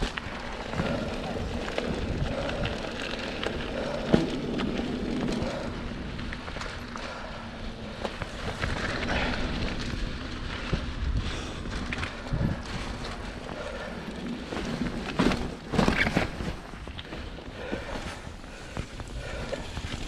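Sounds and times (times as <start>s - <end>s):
bike rattling and knocks: 0.0s - 20.0s
bike tyre rumble on dirt trail: 0.0s - 20.0s.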